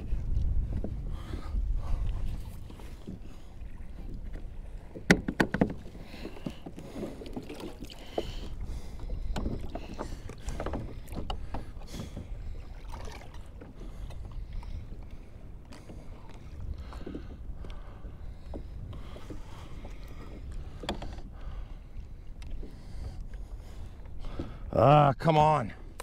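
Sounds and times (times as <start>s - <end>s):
water sloshing against kayak hull: 0.0s - 26.0s.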